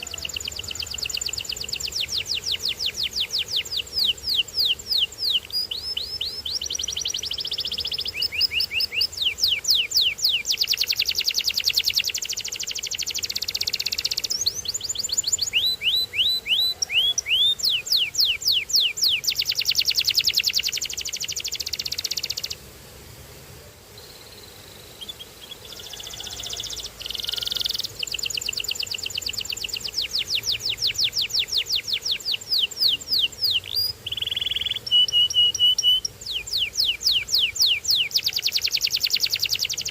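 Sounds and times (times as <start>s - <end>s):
canary singing: 0.0s - 22.6s, 24.0s - 39.9s.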